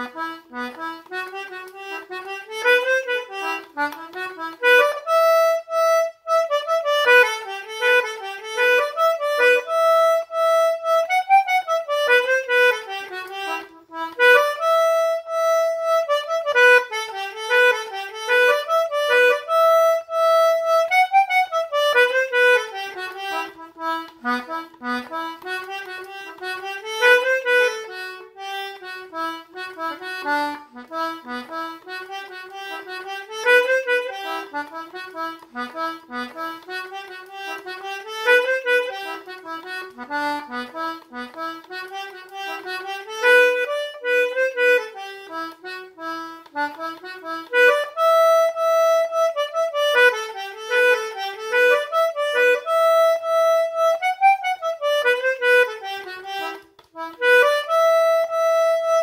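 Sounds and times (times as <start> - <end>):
concertina playing a folk tune: 0.0 - 59.0.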